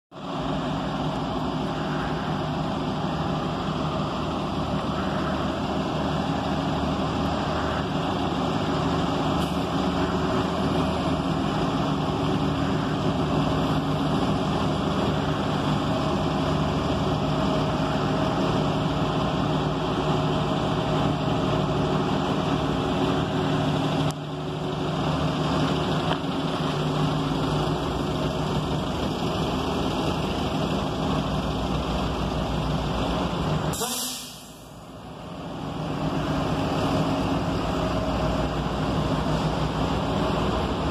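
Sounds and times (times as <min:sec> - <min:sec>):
bus engines idling: 0:00.1 - 0:40.9.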